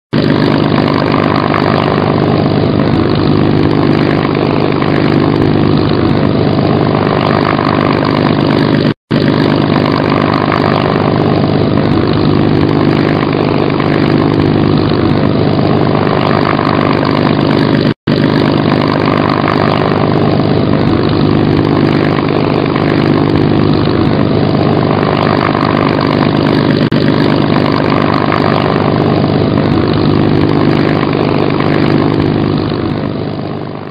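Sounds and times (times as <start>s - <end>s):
propeller plane engine drone: 0.1s - 33.9s.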